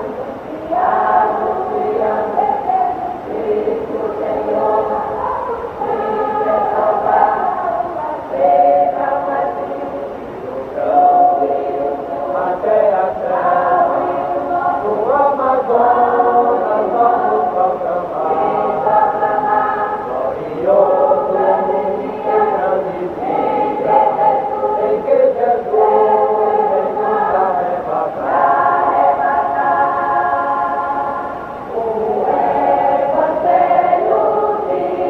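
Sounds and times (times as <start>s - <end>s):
church choir singing a hymn: 0.0s - 35.0s.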